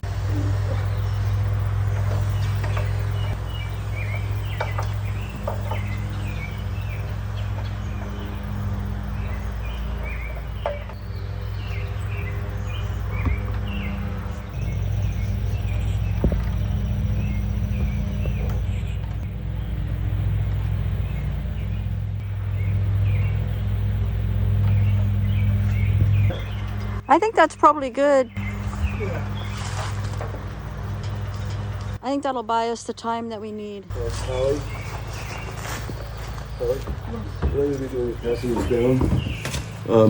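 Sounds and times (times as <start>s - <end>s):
birds chirping: 0.0s - 40.0s
steady low hum: 0.0s - 40.0s.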